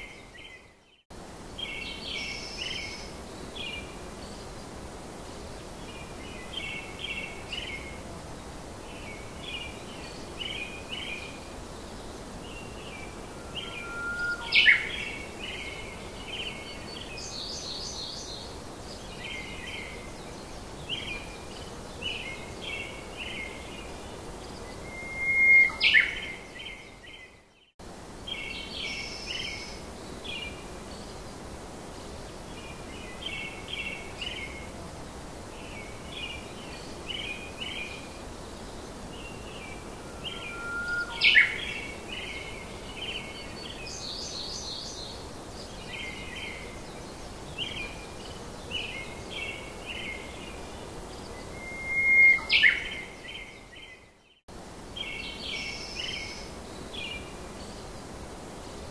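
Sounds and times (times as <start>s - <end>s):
steady hiss: 0.0s - 58.9s.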